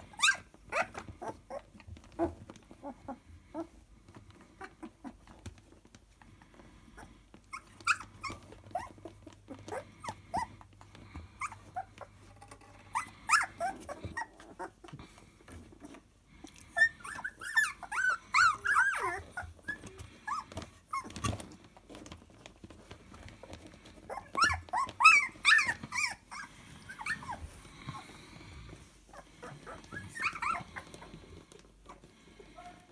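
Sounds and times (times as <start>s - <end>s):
puppies whining and squealing: 0.0s - 32.9s.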